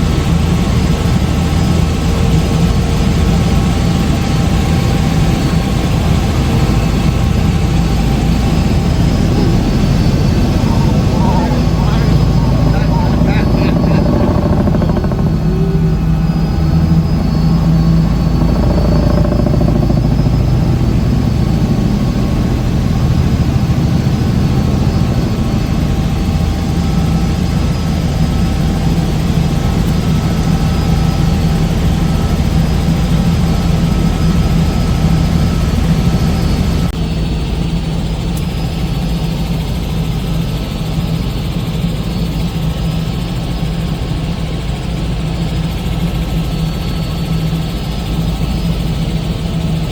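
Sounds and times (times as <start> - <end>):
helicopter engine and rotor drone: 0.0 - 49.9.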